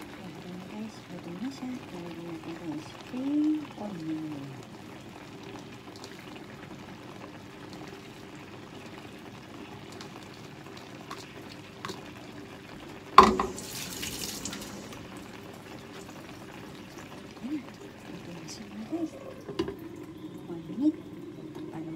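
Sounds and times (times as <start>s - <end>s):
pot bubbling: 0.0s - 21.9s.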